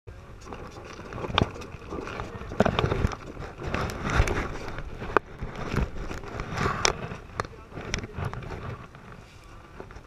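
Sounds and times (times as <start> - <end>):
water noise: 0.1 - 10.0
wind buffeting microphone: 0.1 - 10.0
knocks and clatters from rigging: 0.4 - 10.0.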